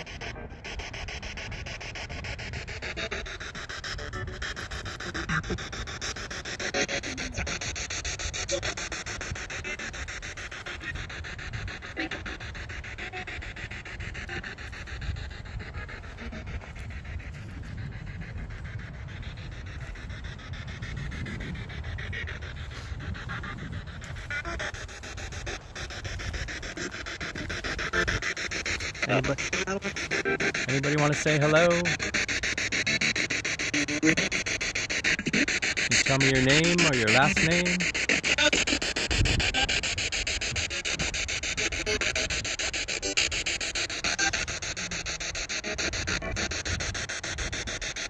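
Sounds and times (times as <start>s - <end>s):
choppy radio static: 0.0s - 48.0s.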